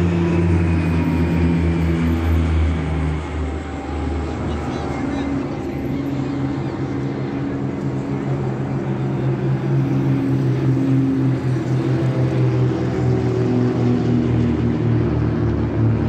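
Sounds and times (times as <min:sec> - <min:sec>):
propeller aircraft droning overhead: 0:00.0 - 0:16.0.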